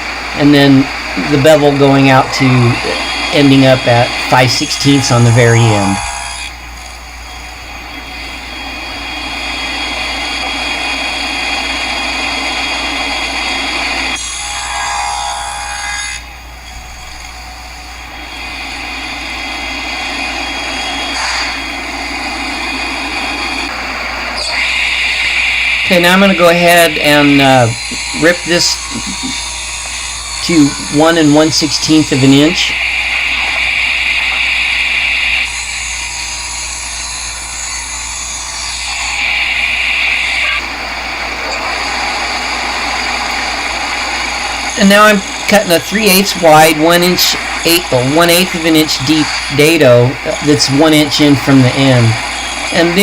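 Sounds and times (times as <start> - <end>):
table saw running: 0.0 - 53.0.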